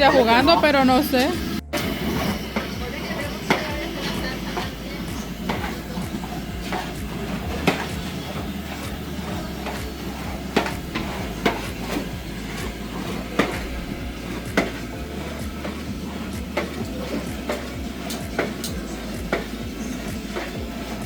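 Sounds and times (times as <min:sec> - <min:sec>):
food frying in lard: 0:00.0 - 0:21.0
paddle knocking against pot: 0:01.8 - 0:21.0.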